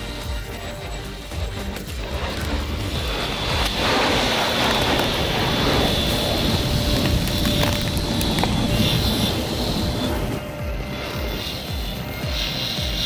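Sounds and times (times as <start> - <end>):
engine running with high whine: 0.0 - 13.0.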